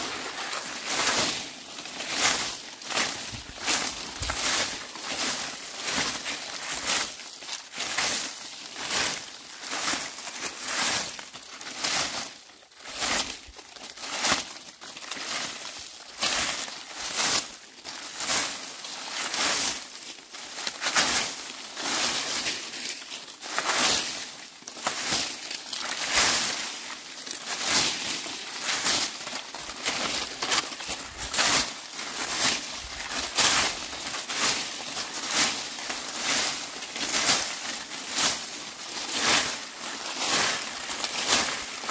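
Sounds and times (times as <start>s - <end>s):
dry leaves being swept: 0.0s - 41.9s.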